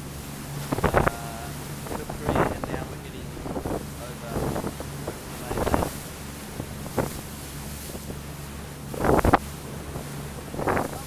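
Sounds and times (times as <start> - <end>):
boat engine drone: 0.0 - 11.0
wind rushing across microphone: 0.0 - 11.0.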